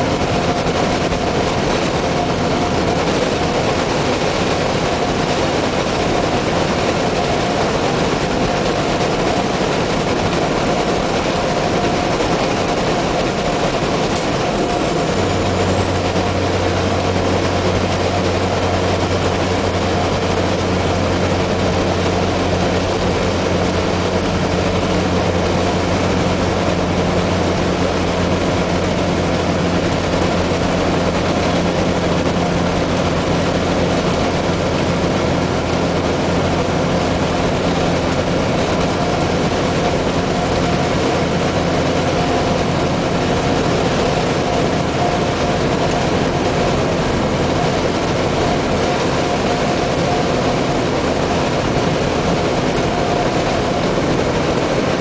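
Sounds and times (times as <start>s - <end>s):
road noise inside cab: 0.0s - 55.0s
truck diesel engine drone: 0.0s - 55.0s.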